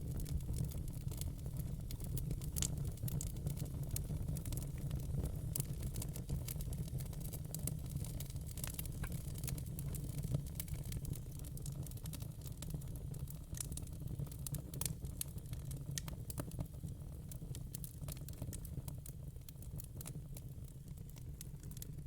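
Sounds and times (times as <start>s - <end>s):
fire low rumble: 0.0s - 22.0s
wood fire popping and snapping: 0.0s - 22.0s.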